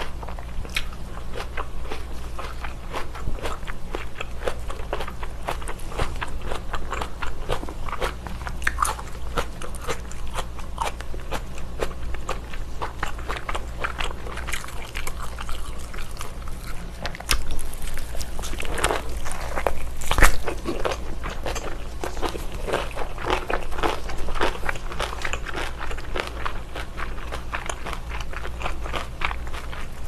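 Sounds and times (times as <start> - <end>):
biting and chewing bacon: 0.0 - 30.0.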